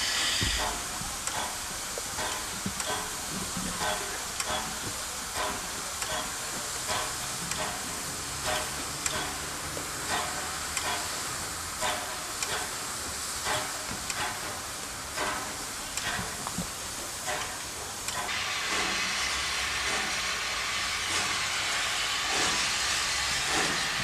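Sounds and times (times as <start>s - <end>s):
steam hissing: 0.0s - 24.0s
steam locomotive chuffing beats: 0.0s - 24.0s.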